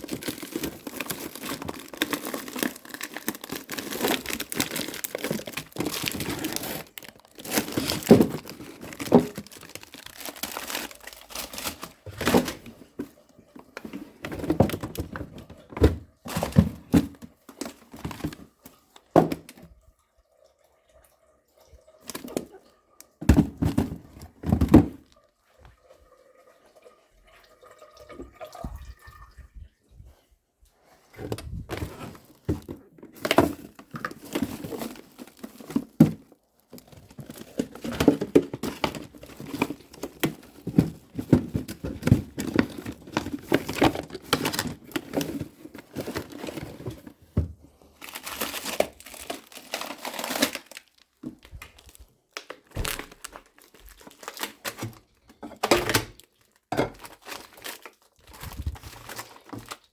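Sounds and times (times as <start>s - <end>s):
packaging crinkling and rustling: 0.0s - 19.7s, 22.0s - 22.6s, 23.2s - 25.4s, 31.2s - 59.9s.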